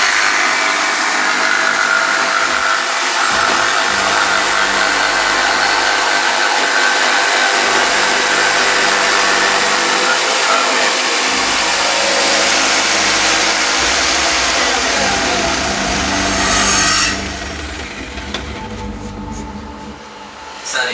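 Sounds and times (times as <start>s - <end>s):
power tool hissing and humming: 0.0s - 20.8s.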